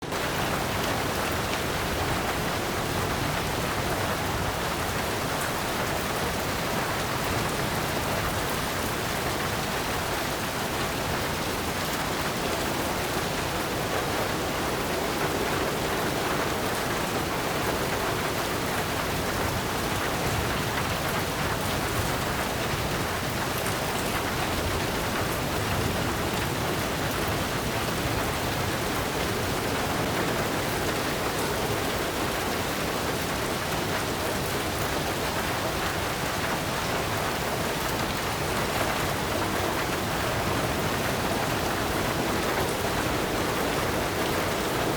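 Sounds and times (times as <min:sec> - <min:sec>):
heavy rain on a tin roof: 0:00.0 - 0:44.9.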